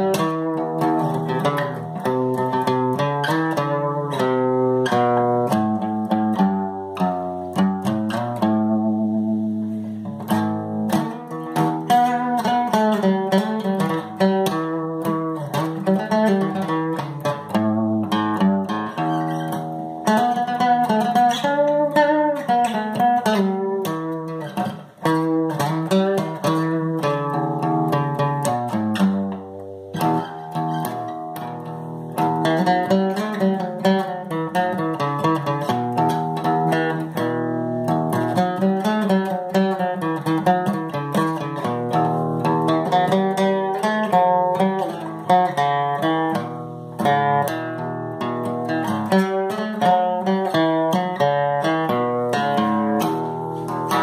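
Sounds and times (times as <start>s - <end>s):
guitar playing: 0.0s - 54.0s.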